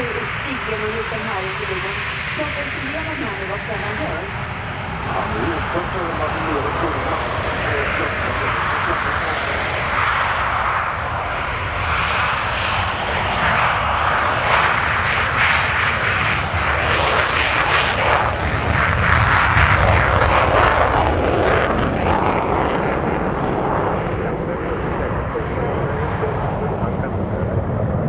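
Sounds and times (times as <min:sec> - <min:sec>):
jet engine roaring: 0:00.0 - 0:28.0.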